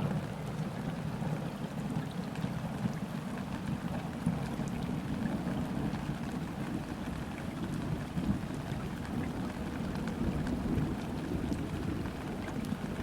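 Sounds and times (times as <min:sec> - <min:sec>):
rain falling on river: 0:00.0 - 0:13.0.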